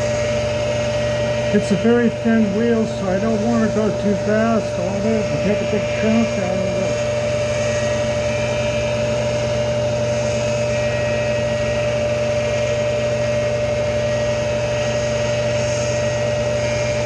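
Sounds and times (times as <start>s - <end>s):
grinder whining: 0.0s - 17.0s.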